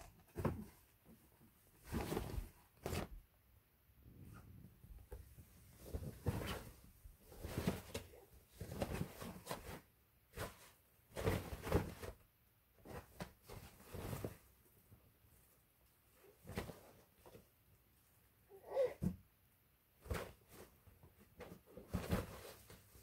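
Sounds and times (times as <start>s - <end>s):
cats rustling fabric tunnel: 0.0s - 3.3s, 4.2s - 18.1s, 19.9s - 23.0s.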